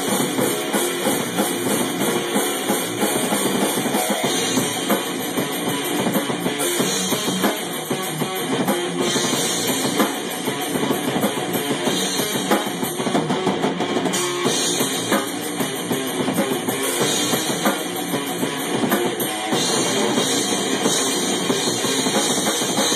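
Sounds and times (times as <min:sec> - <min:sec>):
drum kit: 0:00.0 - 0:22.9
electric guitar rock music: 0:00.0 - 0:22.9.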